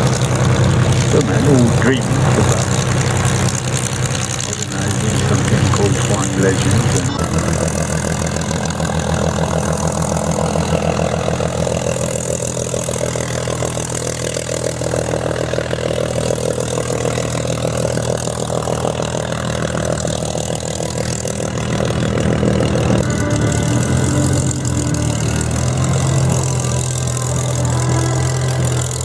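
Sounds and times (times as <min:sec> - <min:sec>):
piston aircraft engine idling: 0:00.0 - 0:29.0.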